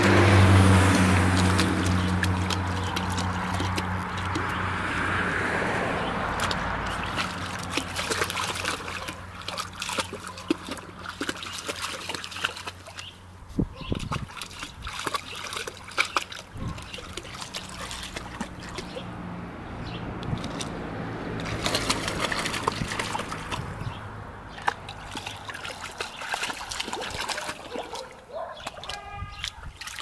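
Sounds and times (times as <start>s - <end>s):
puppies splashing in water: 0.0s - 30.0s.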